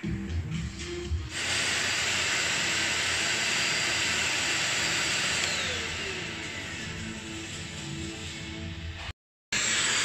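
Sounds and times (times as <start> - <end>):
handheld vacuum cleaner whirring: 1.3 - 10.0.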